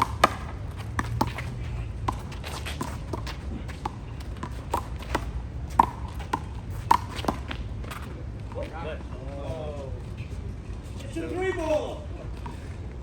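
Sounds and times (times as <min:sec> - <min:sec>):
footsteps on court: 0:00.0 - 0:13.0.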